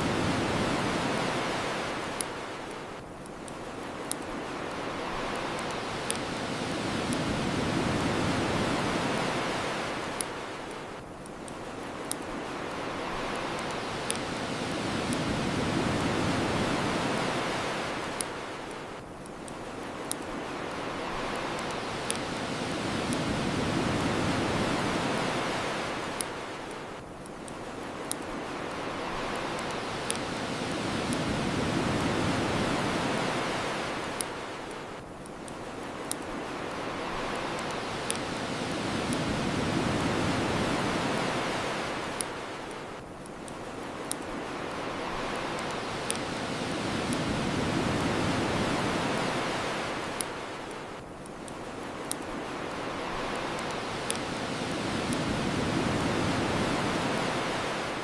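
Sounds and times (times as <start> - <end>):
ocean waves washing onto shore: 0.0 - 58.0
bonfire crackling pops: 0.2 - 57.6.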